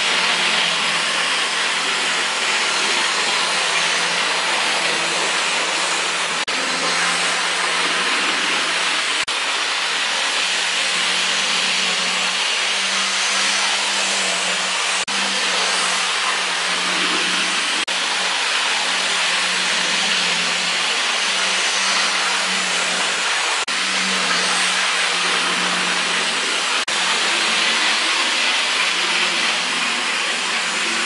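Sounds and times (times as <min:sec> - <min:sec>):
model train motor whine: 0:00.0 - 0:31.0.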